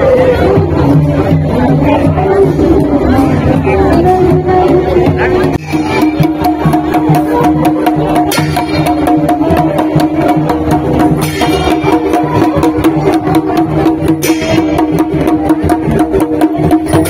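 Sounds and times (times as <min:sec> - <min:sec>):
dhol drumming: 0:00.0 - 0:17.0.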